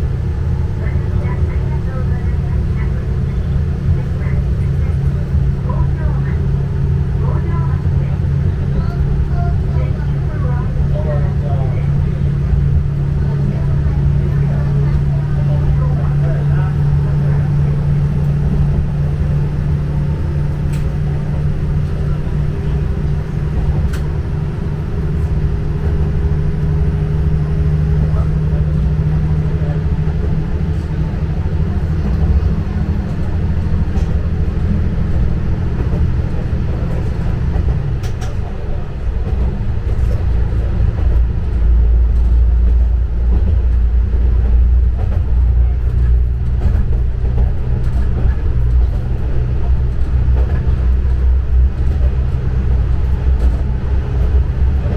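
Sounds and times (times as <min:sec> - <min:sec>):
diesel railcar engine drone: 0:00.0 - 0:54.9
wheels rumbling on track: 0:00.0 - 0:54.9.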